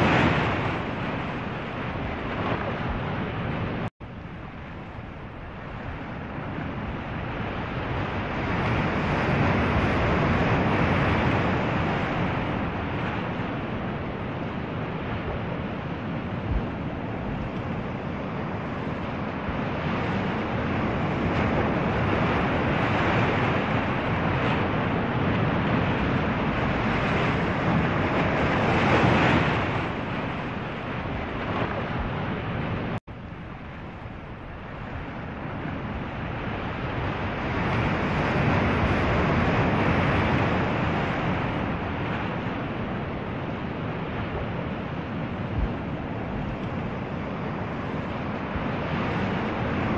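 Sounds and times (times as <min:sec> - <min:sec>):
ocean waves: 0:00.0 - 0:49.9
wind: 0:00.0 - 0:49.9.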